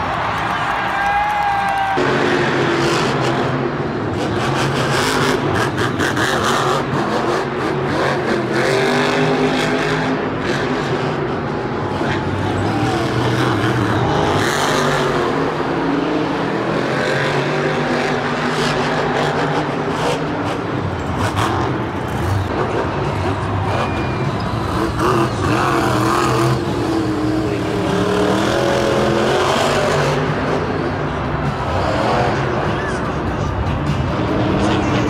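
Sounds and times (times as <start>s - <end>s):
truck engines revving: 0.0s - 35.0s.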